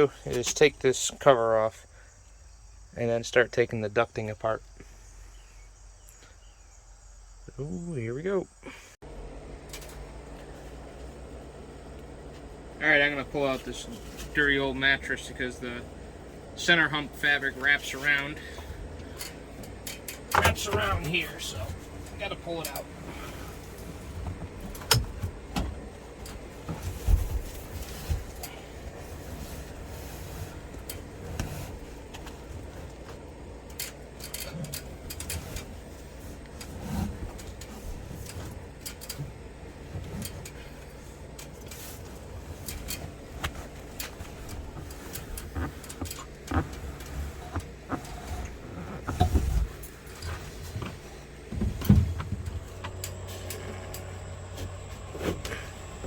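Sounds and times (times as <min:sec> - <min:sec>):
handling knocks and rustling: 0:09.4 - 0:56.0.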